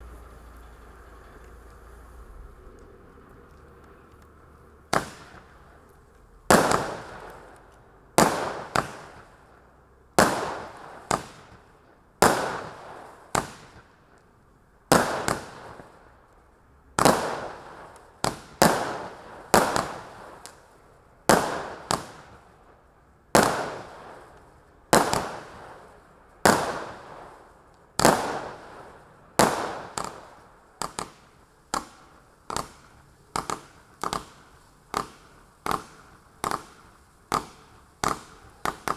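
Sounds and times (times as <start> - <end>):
fireworks bangs: 0.0 - 14.0, 14.9 - 16.2, 17.0 - 38.9.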